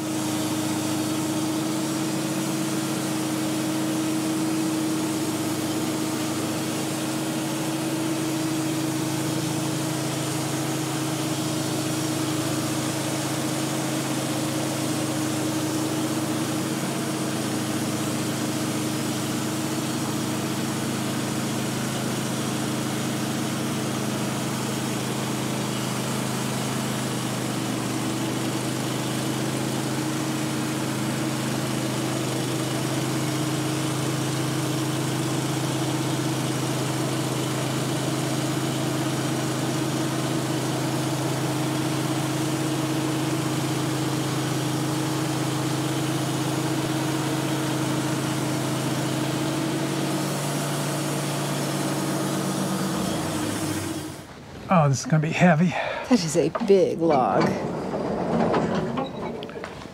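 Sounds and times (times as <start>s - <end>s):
band sawmill cutting log: 0.0s - 55.2s.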